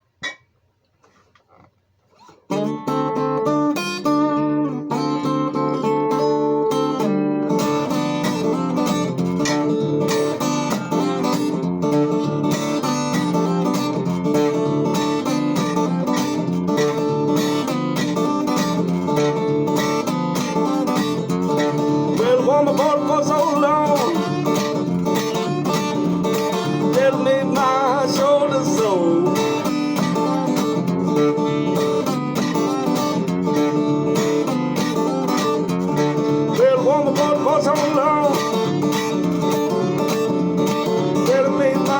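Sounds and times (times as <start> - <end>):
country acoustic guitar music: 2.1 - 41.9
gliding guitar melody: 2.2 - 41.9.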